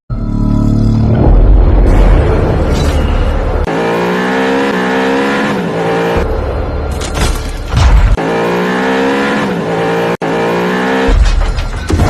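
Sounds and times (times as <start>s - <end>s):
car engine: 0.1s - 12.0s.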